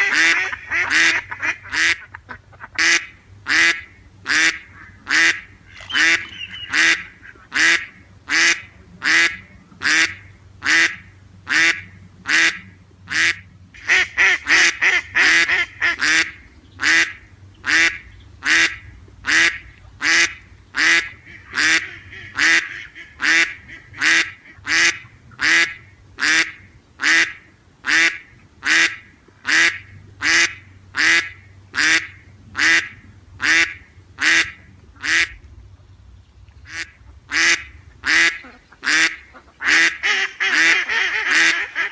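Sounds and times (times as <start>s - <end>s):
duck quacking: 0.0s - 35.4s, 36.7s - 41.9s.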